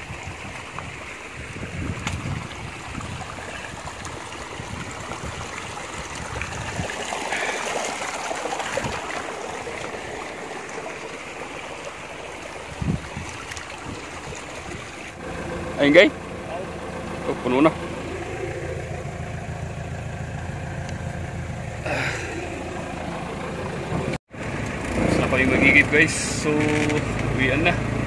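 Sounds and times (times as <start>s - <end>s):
stream trickling over rocks: 0.0s - 28.0s.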